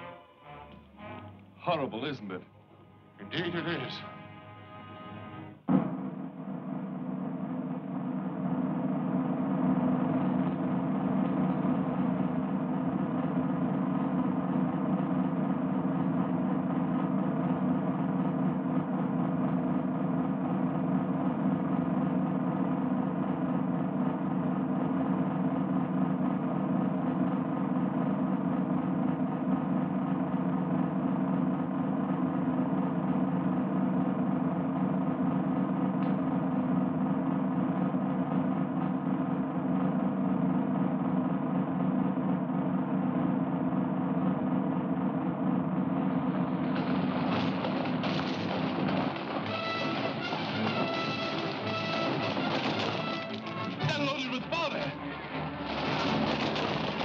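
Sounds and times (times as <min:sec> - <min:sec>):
field drum roll: 0:05.5 - 0:42.4, 0:45.8 - 0:57.0.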